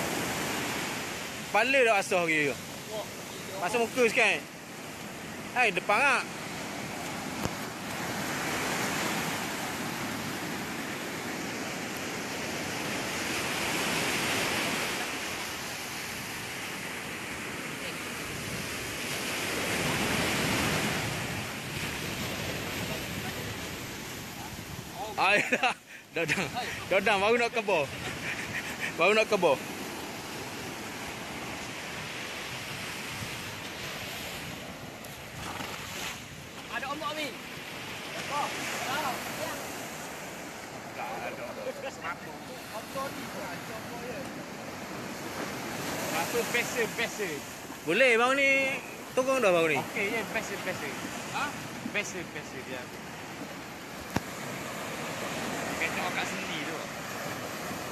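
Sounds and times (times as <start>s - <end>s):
surf breaking on beach: 0.0s - 57.9s.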